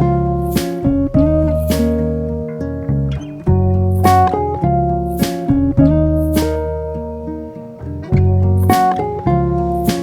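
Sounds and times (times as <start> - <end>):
plucked guitar melody with bass: 0.0 - 10.0.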